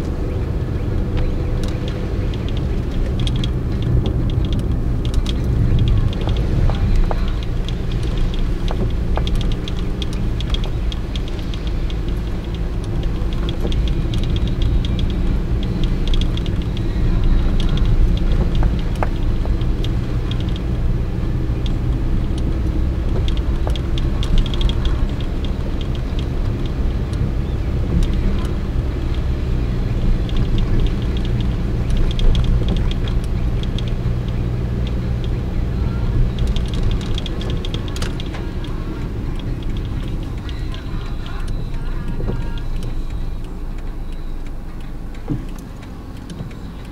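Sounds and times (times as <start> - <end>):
car engine and tyres on wet road: 0.0 - 46.9
light ticking: 0.0 - 46.9.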